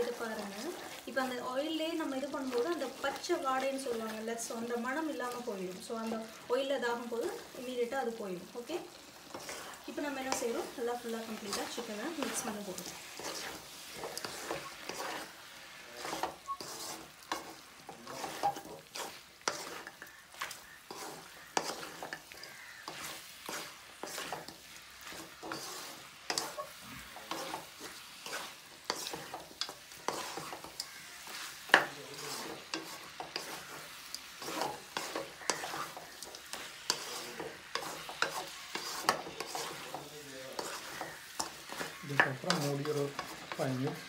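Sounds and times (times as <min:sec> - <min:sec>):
food sizzling in oil: 0:00.0 - 0:44.0
spatula scraping metal wok: 0:00.0 - 0:44.0.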